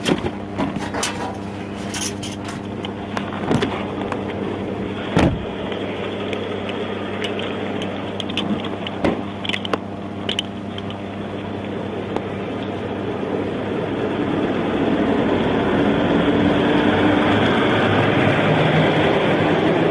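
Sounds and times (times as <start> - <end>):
vehicle engine idling: 1.2 - 19.9.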